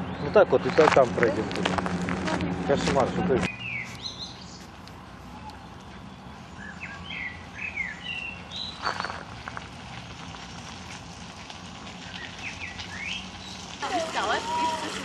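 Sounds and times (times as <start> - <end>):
small birds chirping: 0.0 - 9.1, 11.9 - 14.9.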